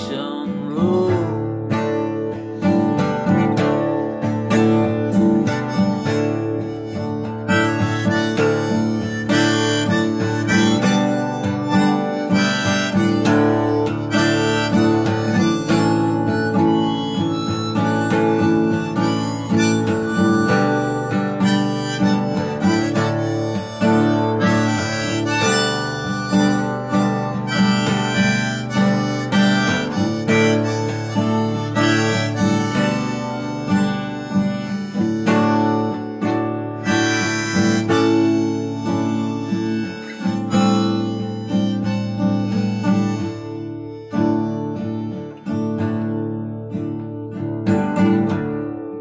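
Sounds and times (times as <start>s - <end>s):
harmonica playing: 0.0s - 45.9s
strummed acoustic guitar: 0.0s - 49.0s.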